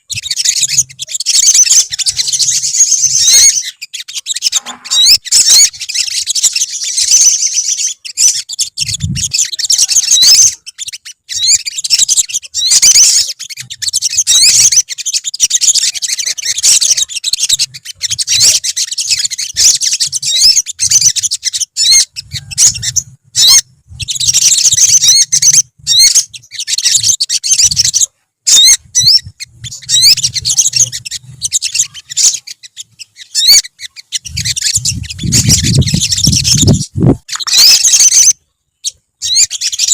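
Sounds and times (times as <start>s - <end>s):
sunbirds twittering chirps: 0.0s - 39.9s.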